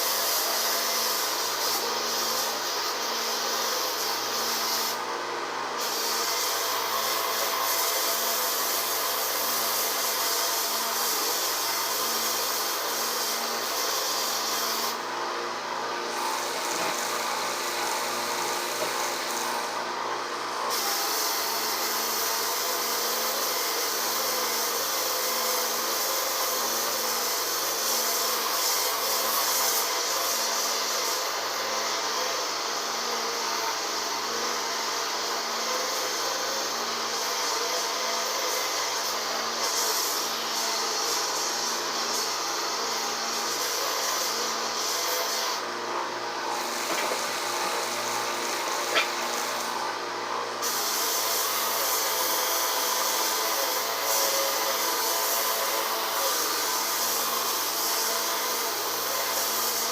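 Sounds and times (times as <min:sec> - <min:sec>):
sanding belt grinding on masonry: 0:00.0 - 0:59.9.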